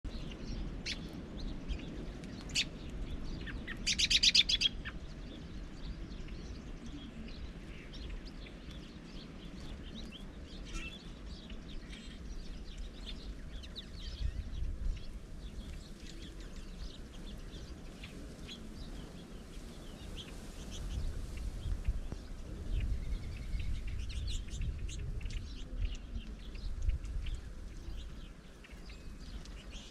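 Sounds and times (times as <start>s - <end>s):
songbirds chirping: 0.0s - 29.9s
wind rumble: 0.0s - 29.9s.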